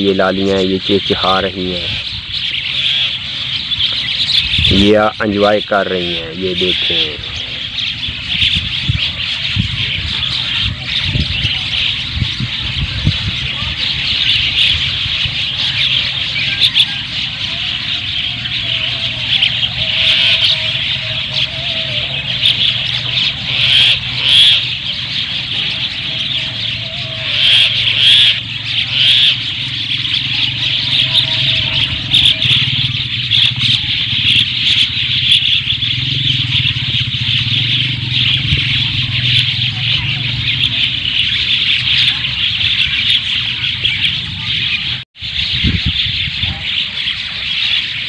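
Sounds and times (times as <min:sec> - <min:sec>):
mynas chirping and chattering: 0:00.0 - 0:48.0.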